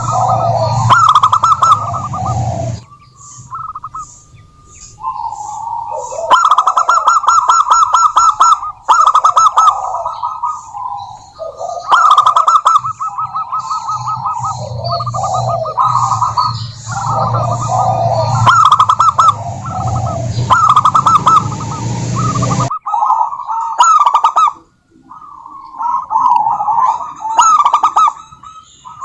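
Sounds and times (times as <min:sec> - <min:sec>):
dove cooing trills: 0:00.0 - 0:29.0.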